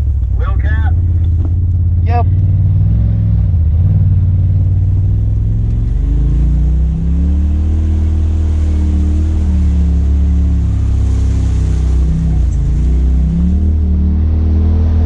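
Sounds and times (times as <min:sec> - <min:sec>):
utility vehicle engine running: 0:00.0 - 0:15.0.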